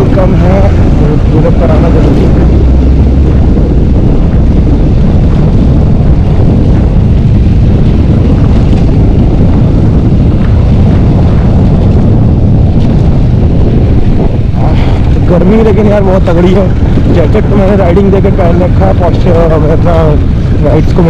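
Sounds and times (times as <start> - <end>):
motorcycle engine running: 0.0 - 21.0
wind rumble on microphone: 0.0 - 21.0.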